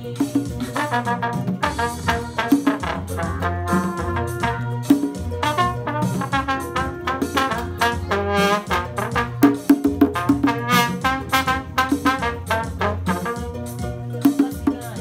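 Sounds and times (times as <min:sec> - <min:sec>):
hand drums beating: 0:00.0 - 0:15.0
trombone melody: 0:00.6 - 0:14.2
trumpet melody: 0:00.6 - 0:14.2.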